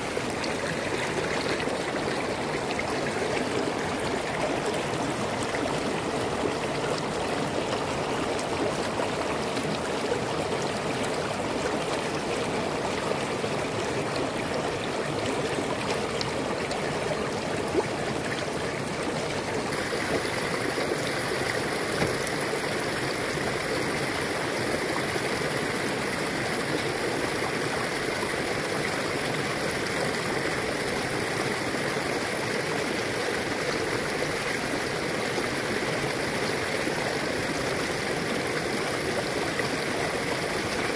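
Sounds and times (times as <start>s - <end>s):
shallow river babbling over stones: 0.0s - 40.9s.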